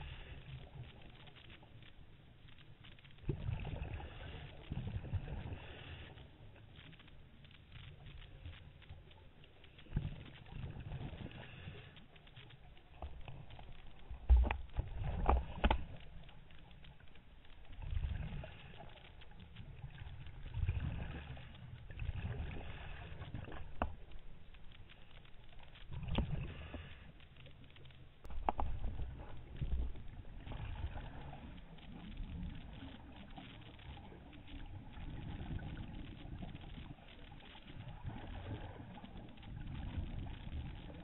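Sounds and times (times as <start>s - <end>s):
exhaled bubbles rumbling underwater: 0.0s - 41.0s.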